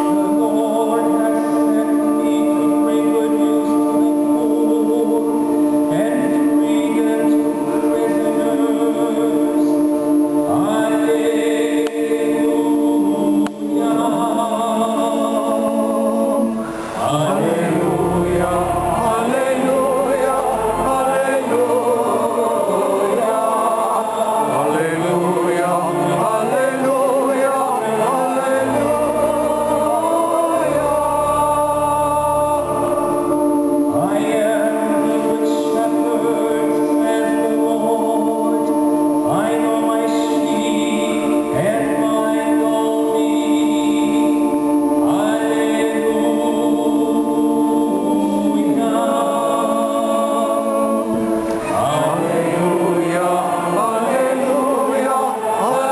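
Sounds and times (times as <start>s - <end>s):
church choir singing: 0.0s - 55.9s.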